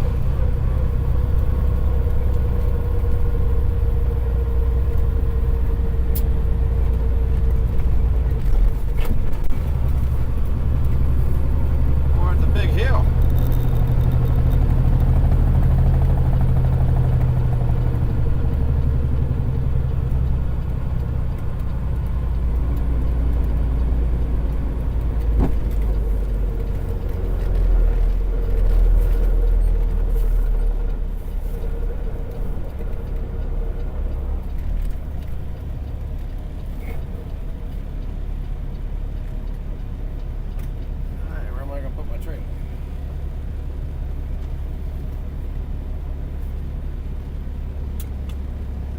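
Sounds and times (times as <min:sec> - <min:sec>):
truck diesel engine droning: 0:00.0 - 0:48.9.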